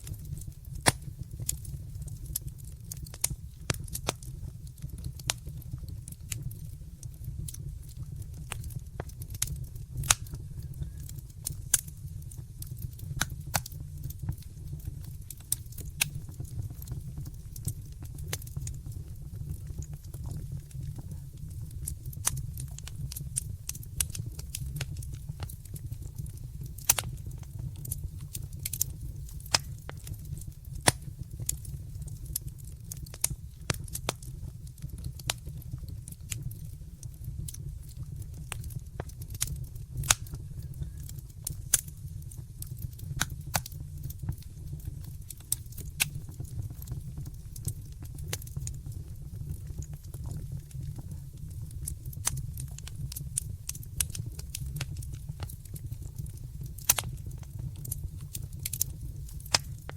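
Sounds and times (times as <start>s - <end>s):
loud pops of fire: 0.0s - 59.9s
low rumble of flames: 0.0s - 59.9s
wood fire crackling: 0.0s - 59.9s.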